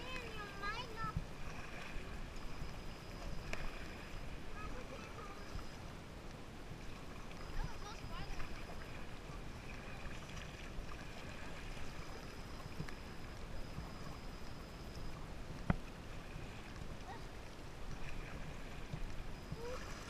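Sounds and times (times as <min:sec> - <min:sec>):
moving water: 0:00.0 - 0:20.0
paddle strokes: 0:00.0 - 0:20.0.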